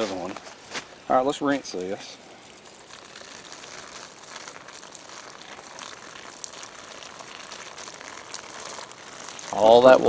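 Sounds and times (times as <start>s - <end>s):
water pouring and splashing: 1.5s - 10.0s.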